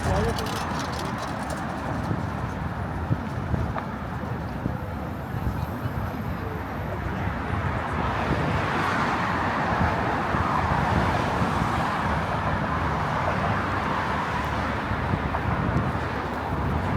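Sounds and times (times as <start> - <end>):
cars going by: 0.0 - 4.0, 6.8 - 16.9.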